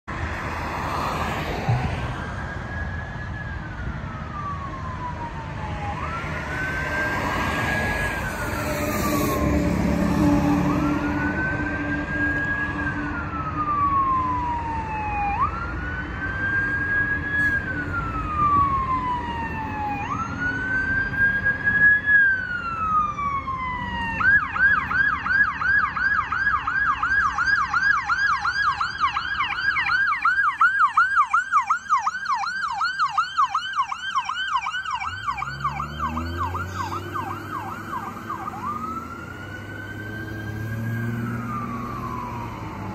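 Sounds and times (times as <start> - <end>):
road traffic: 0.0 - 42.9
siren wailing: 0.5 - 42.9
siren fast yelp: 4.3 - 42.9.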